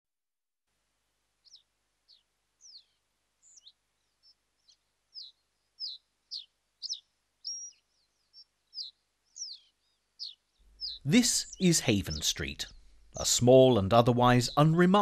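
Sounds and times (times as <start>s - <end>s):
small songbird chirping: 1.4s - 15.0s.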